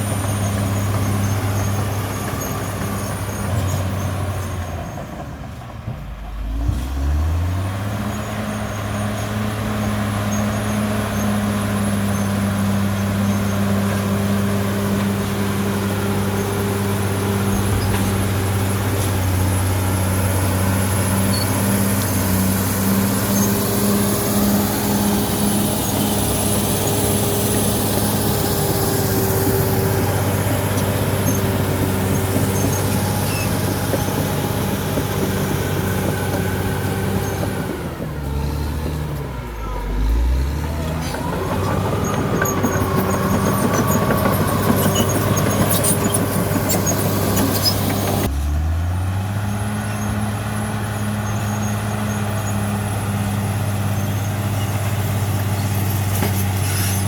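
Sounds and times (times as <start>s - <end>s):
bulldozer diesel engine revving: 0.0s - 5.2s, 6.1s - 57.0s.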